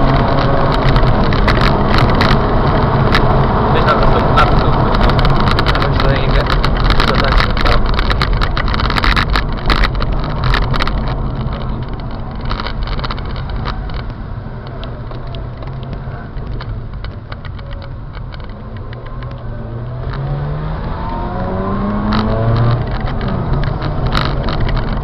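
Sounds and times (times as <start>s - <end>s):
tyre and road noise: 0.0s - 25.0s.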